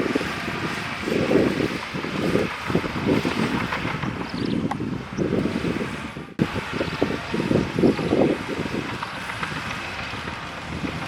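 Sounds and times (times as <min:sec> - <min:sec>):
bulldozer diesel engine rumbling: 0:00.0 - 0:11.0.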